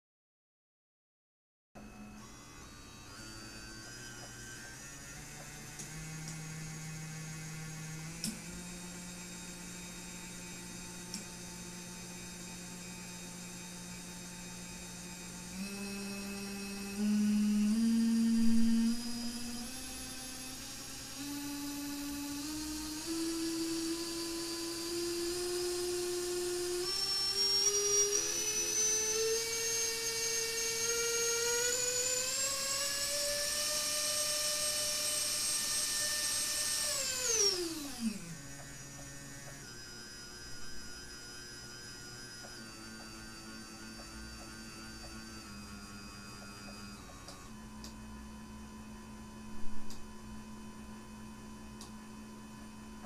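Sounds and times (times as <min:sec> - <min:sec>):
drone motor whining: 0:01.8 - 0:50.0.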